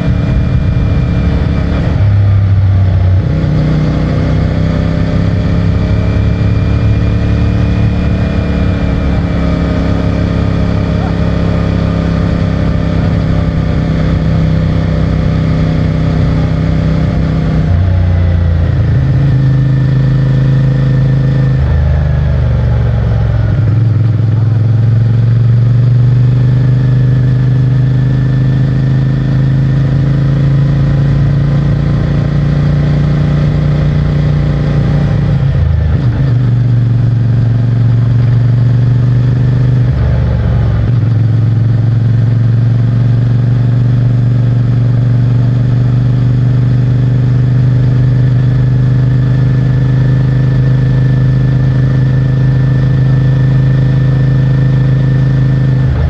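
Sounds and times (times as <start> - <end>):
motorcycle engine drone: 0.0 - 56.0.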